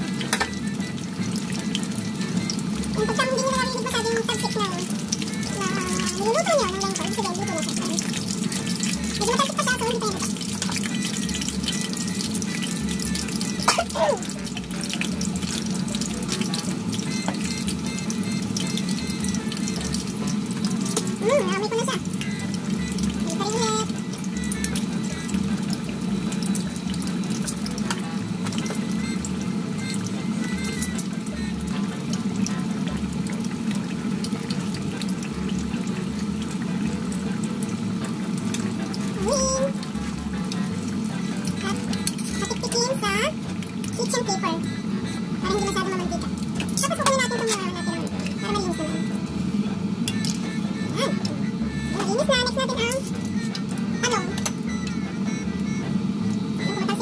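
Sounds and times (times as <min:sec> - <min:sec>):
batter deep-frying in hot oil: 0:00.0 - 0:57.0.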